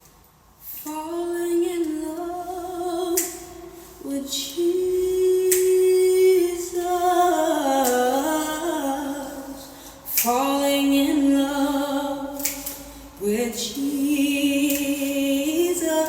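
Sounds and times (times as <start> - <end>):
person singing slow melody: 0.7 - 16.0.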